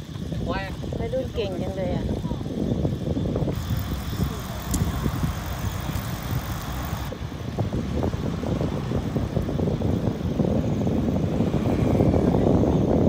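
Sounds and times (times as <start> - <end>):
bike ride rumbling: 0.0 - 13.0
wind buffeting microphone: 0.0 - 13.0.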